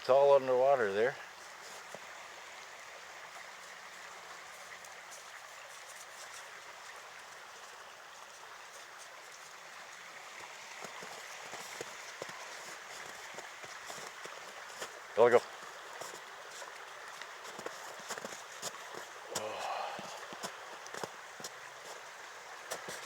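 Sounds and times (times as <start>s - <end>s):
river water rushing: 1.2s - 23.0s.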